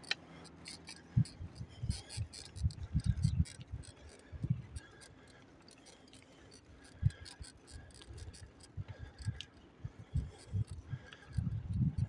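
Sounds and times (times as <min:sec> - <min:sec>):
faint clicks: 0:00.0 - 0:12.0.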